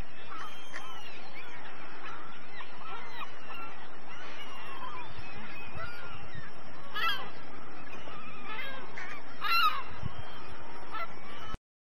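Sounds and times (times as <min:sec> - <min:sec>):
waterbirds calling: 0:00.0 - 0:11.6.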